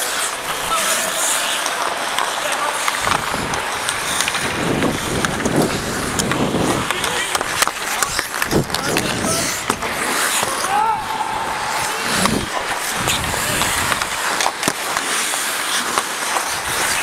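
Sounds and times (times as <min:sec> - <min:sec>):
hockey sticks and puck clicking: 0:00.0 - 0:17.0
skates scraping on ice: 0:00.0 - 0:17.0.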